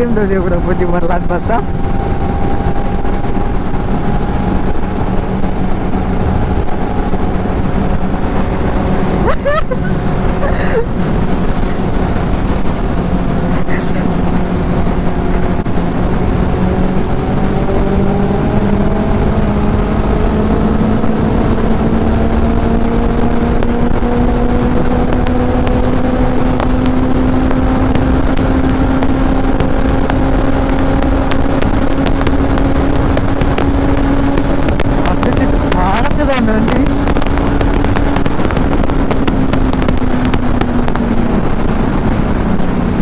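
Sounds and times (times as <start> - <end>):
motorcycle engine accelerating: 0.0 - 43.0
wind rush on microphone: 0.0 - 43.0.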